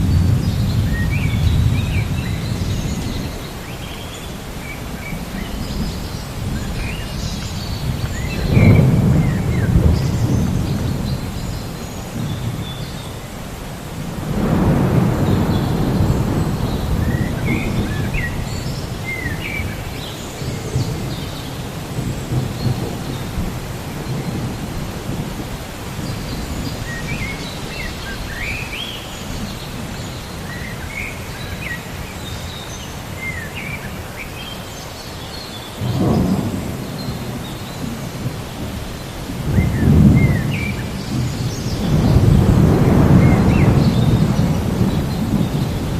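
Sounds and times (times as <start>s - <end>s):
thunder rumbling: 0.0s - 3.7s, 4.4s - 30.6s, 35.8s - 45.9s
steady rain: 0.0s - 45.9s.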